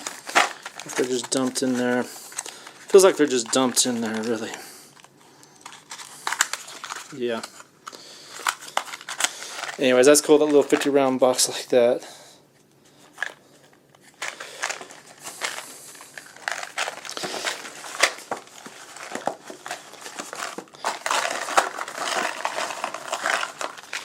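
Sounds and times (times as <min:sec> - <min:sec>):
cardboard crinkling and rustling: 0:00.0 - 0:07.7, 0:08.3 - 0:11.2, 0:14.0 - 0:24.0.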